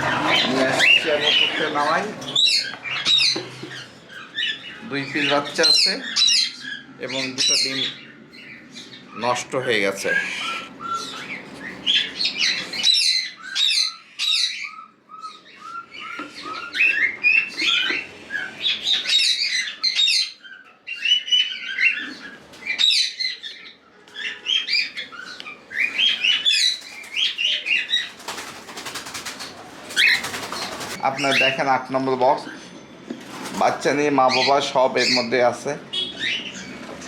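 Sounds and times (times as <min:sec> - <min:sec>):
cockatiels chirping and calling: 0:00.0 - 0:32.7, 0:33.6 - 0:37.0.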